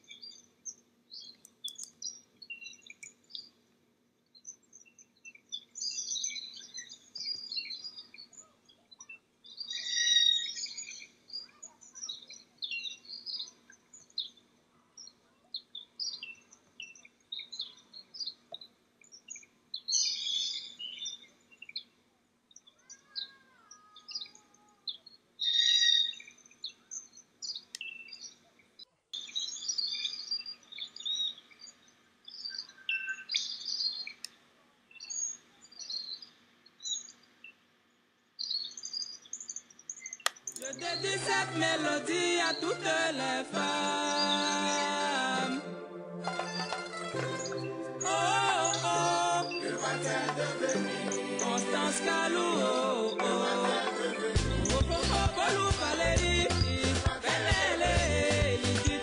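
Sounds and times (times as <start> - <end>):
small birds chirping: 0.0 - 45.6, 46.6 - 59.0.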